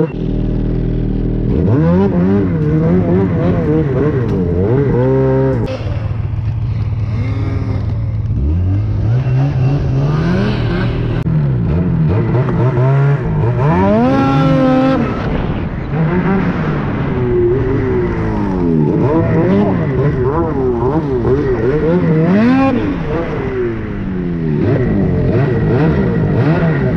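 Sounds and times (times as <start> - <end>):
snowmobile engine revving: 0.0 - 26.9.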